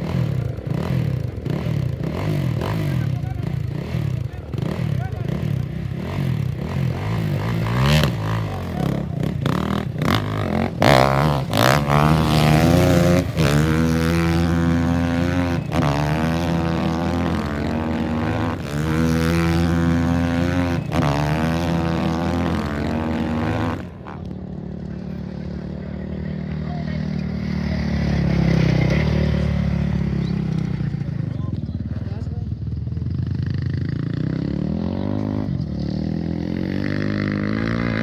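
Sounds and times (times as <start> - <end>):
race engine accelerating: 0.0 - 31.4.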